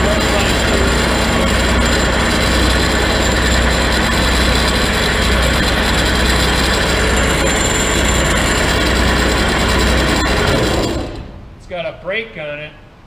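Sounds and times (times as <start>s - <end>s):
band saw running: 0.0s - 11.4s.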